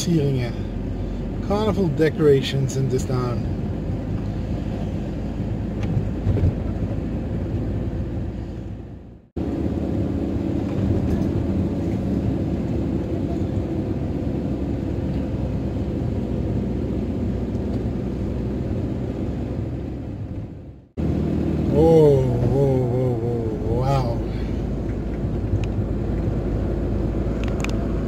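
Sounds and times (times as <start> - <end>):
van engine and road rumble: 0.0 - 28.0.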